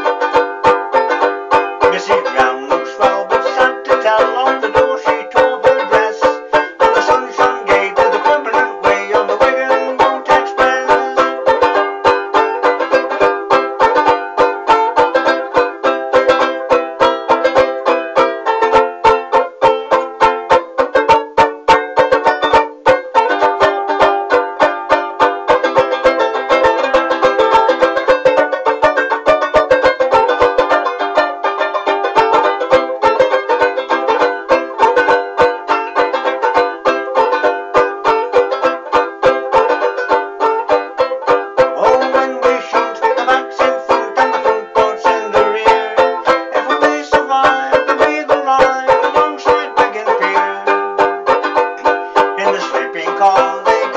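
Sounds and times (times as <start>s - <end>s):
banjo ukulele strummed fast: 0.0s - 53.9s.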